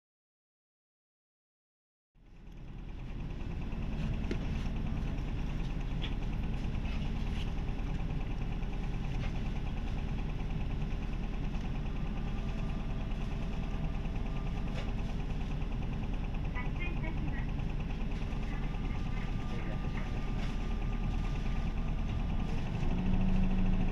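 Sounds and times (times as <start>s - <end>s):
bus diesel engine idling: 2.2s - 23.9s.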